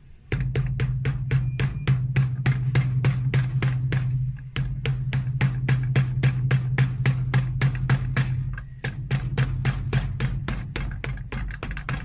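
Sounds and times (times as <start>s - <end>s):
steady low hum: 0.0s - 12.0s
hammer tapping on shoe heel: 0.3s - 12.0s.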